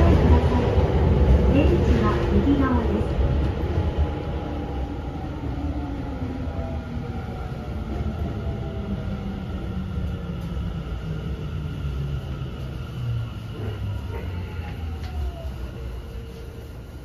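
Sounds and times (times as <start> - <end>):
subway train motor whine: 0.0 - 17.0
wheels rumbling on rail: 0.0 - 17.0.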